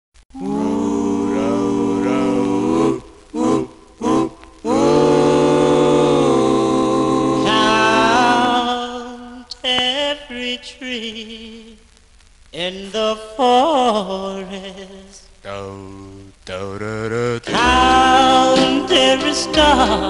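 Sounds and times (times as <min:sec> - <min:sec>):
vocal group singing harmony: 0:00.3 - 0:11.7, 0:12.9 - 0:20.0.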